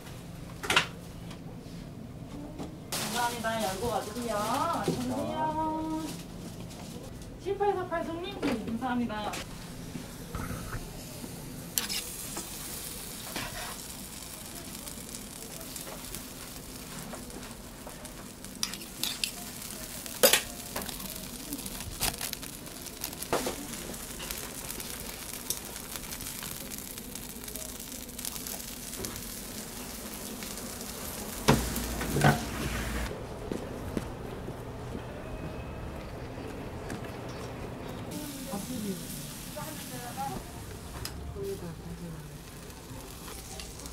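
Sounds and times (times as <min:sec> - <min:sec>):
batter sizzling in griddle molds: 0:02.9 - 0:08.1, 0:08.8 - 0:33.1, 0:38.1 - 0:43.9.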